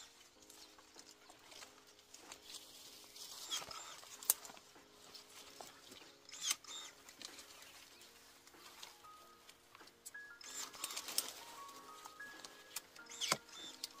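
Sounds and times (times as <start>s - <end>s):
birds chirping faintly: 0.0s - 14.0s
pruning shears snipping: 0.0s - 14.0s
soft background music: 0.0s - 14.0s
twigs rustling: 0.0s - 14.0s.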